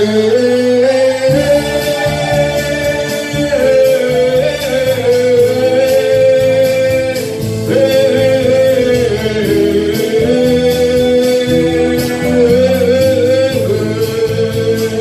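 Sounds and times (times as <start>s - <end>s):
karaoke backing track: 0.0s - 15.0s
man singing long notes: 0.0s - 15.0s.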